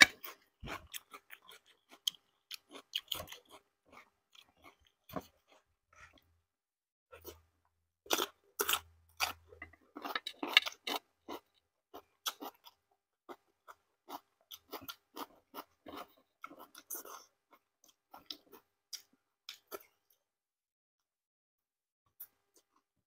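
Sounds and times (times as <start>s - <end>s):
person chewing and eating: 0.0s - 6.5s, 7.1s - 20.3s.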